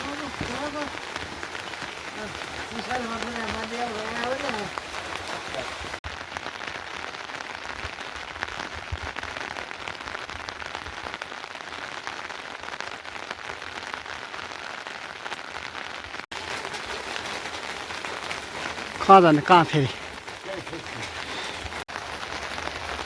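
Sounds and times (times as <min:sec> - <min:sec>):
rain drops pattering: 0:00.0 - 0:23.0.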